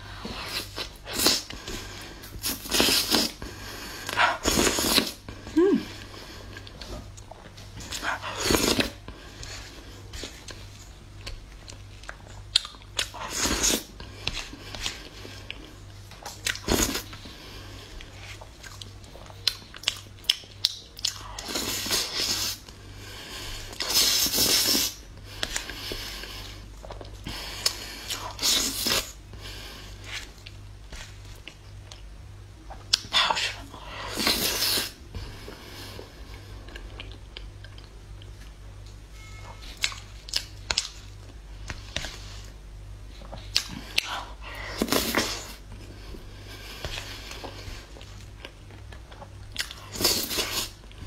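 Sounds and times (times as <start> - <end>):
wet chewing and mouth sounds: 0.1 - 22.8, 23.5 - 39.0, 39.6 - 51.0.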